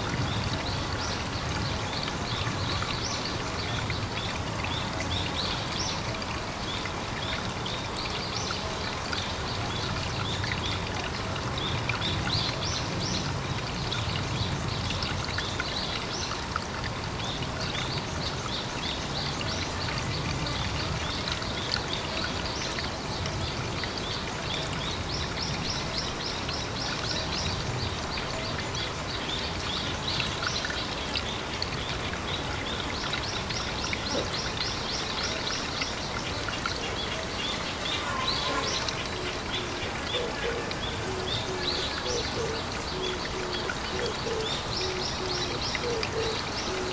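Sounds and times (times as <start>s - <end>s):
running water with low rumble: 0.0s - 46.9s.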